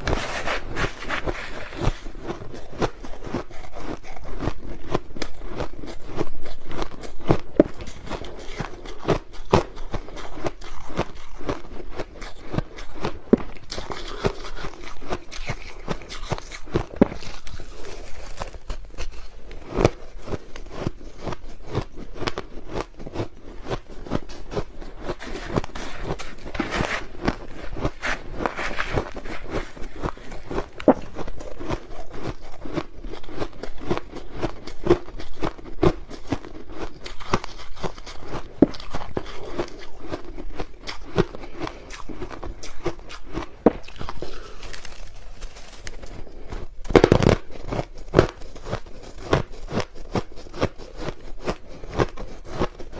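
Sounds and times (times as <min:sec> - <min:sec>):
crushed ice being chewed: 0:00.0 - 0:52.9.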